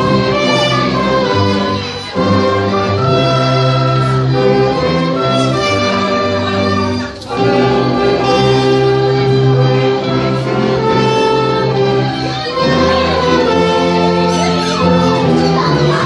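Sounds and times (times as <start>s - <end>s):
saxophones brass and strings hymn: 0.0s - 16.0s.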